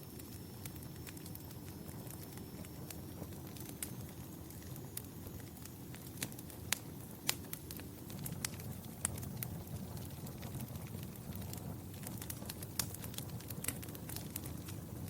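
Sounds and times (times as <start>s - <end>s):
fire crackling with sharp pops: 0.0s - 15.0s
low rumble of flames: 0.0s - 15.0s.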